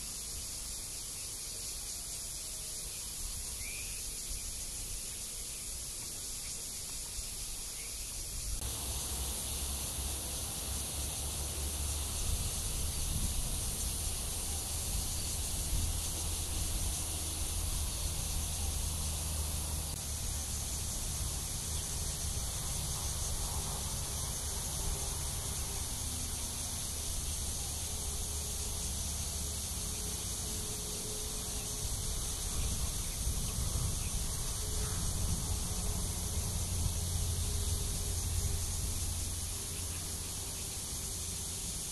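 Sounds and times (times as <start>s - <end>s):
cicadas droning: 0.0s - 41.9s.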